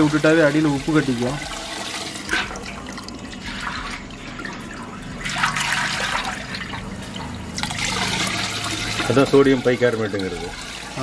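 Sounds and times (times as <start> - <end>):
juice trickling through a strainer: 0.0 - 11.0.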